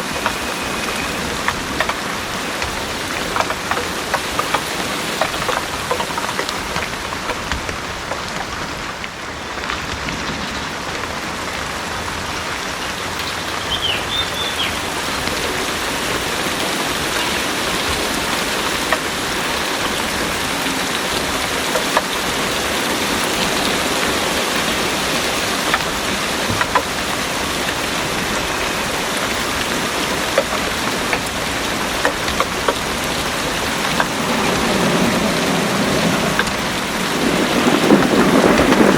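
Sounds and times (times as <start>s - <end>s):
heavy rain pouring: 0.0s - 38.9s
raindrops ticking on surfaces: 0.0s - 38.9s.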